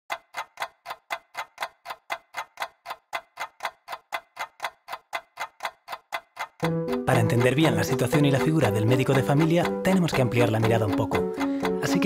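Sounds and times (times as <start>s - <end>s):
clock ticking: 0.1s - 12.0s.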